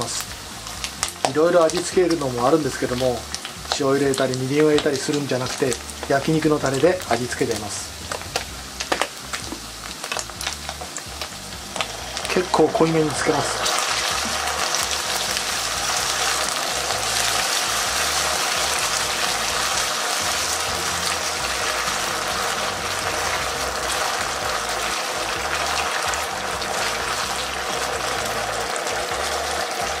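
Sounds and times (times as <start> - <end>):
background music: 0.0 - 30.0
chicken skin sizzling in sauce: 0.0 - 30.0.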